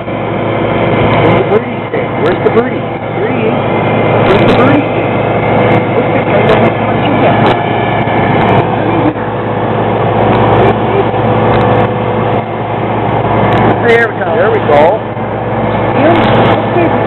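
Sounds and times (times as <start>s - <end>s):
ferry engine humming: 0.0s - 17.0s.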